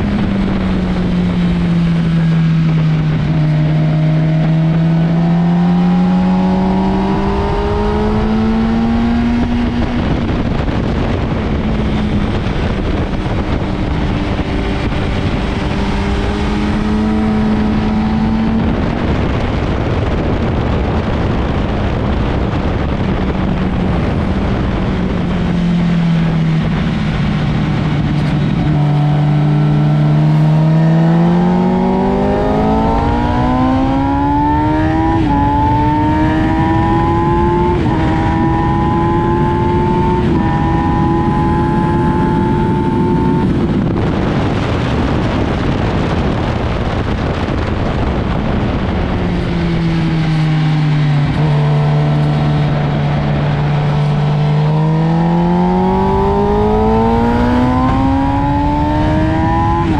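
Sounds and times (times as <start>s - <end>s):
motorcycle engine: 0.0s - 59.9s
wind rush: 0.0s - 59.9s.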